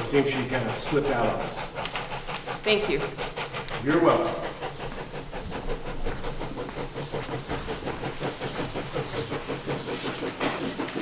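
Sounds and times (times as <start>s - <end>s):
hiss: 0.0s - 11.0s
train rhythmic clatter: 0.0s - 11.0s.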